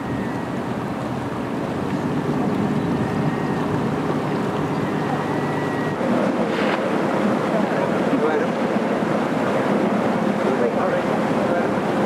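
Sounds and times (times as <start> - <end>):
boat engine droning: 0.0 - 12.0
water washing along hull: 0.0 - 12.0.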